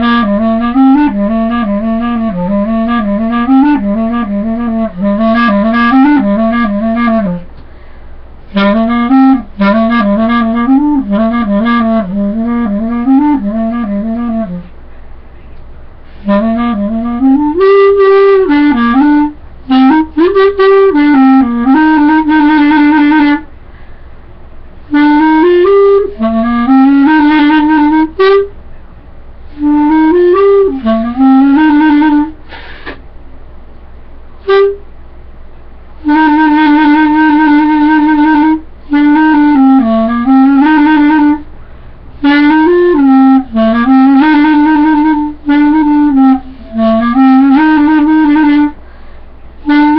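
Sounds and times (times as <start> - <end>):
solo clarinet melody: 0.0 - 23.6, 24.5 - 33.0, 34.3 - 35.1, 35.9 - 49.9.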